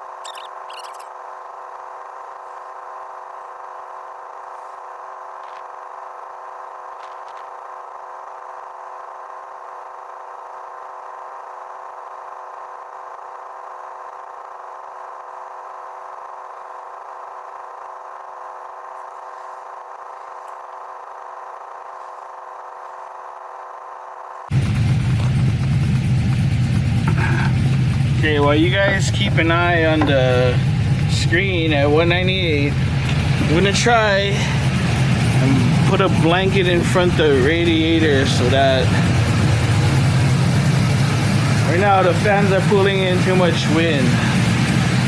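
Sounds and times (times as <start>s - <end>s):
cooling fans whirring: 0.0s - 45.0s.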